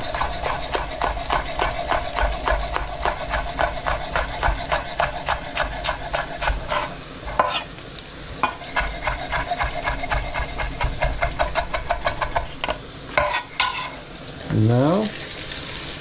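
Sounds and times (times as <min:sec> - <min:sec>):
spoon scraping and knocking pan: 0:00.0 - 0:07.7, 0:08.4 - 0:14.0
bacon sizzling in a frying pan: 0:00.0 - 0:16.0.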